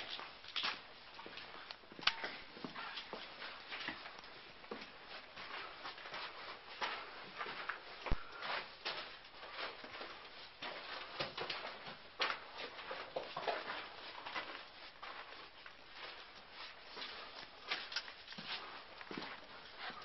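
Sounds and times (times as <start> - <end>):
footsteps crunching on rubble: 0.0 - 20.0.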